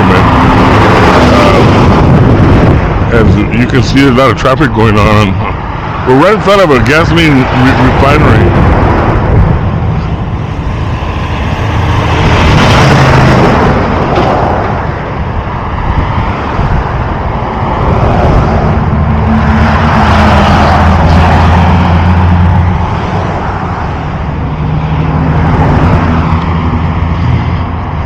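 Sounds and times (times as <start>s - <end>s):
heavy highway traffic: 0.0s - 28.0s.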